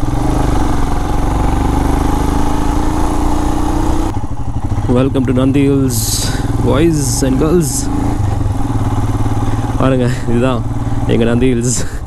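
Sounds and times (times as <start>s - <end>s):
motorcycle engine pulling: 0.0s - 12.0s.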